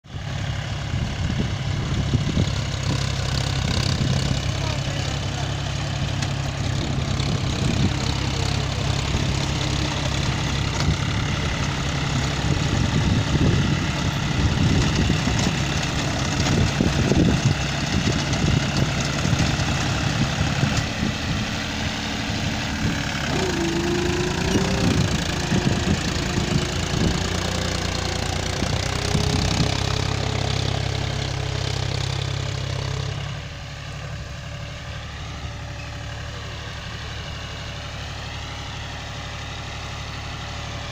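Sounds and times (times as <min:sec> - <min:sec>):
tractor engine under load: 0:00.1 - 0:40.9.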